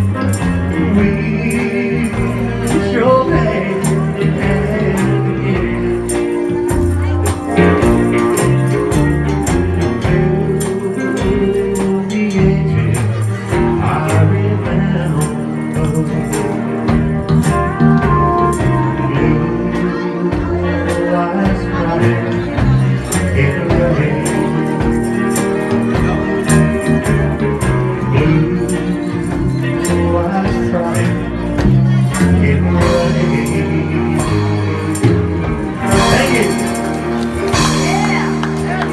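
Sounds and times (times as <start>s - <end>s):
live band playing country ballad: 0.0s - 38.9s
man singing into a microphone: 0.0s - 38.9s.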